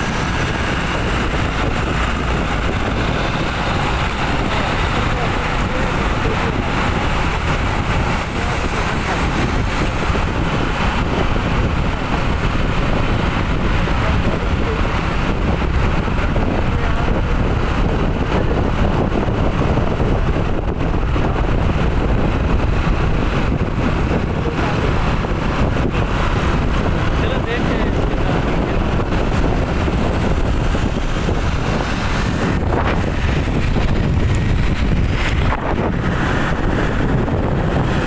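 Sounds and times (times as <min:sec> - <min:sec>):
road vehicle noise: 0:00.0 - 0:38.0
wind rumble on microphone: 0:00.0 - 0:38.0.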